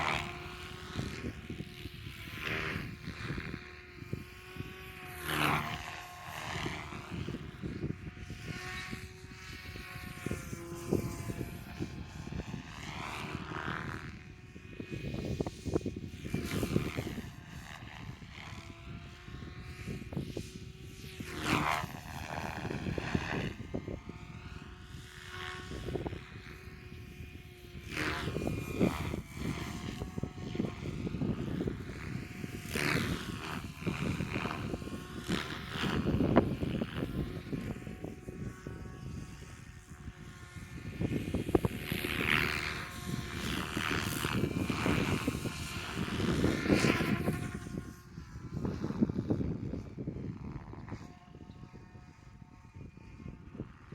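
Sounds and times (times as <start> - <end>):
radio-controlled helicopter whine: 0.0 - 53.9
wind buffeting microphone: 0.0 - 53.9.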